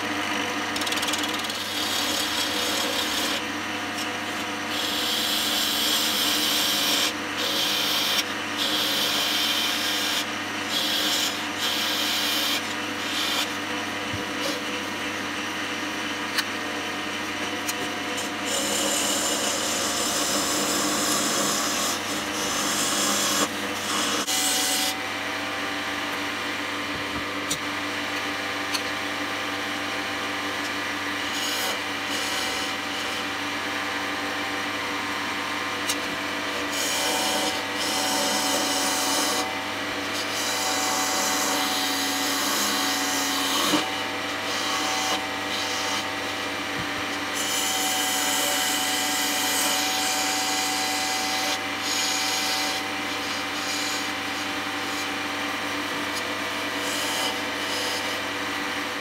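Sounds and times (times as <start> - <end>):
wood lathe motor hum: 0.0 - 59.0.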